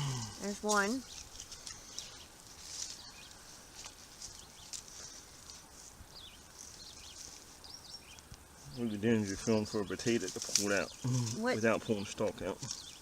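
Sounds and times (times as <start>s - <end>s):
hands rustling through soil: 0.0s - 13.0s.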